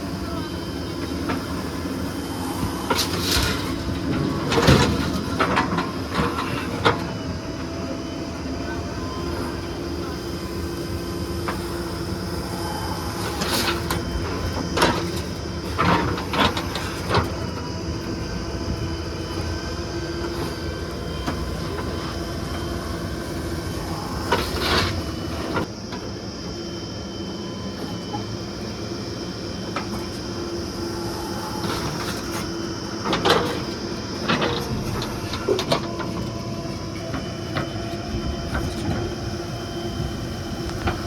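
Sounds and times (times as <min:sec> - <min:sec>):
heavy diesel machinery running: 0:00.0 - 0:41.0.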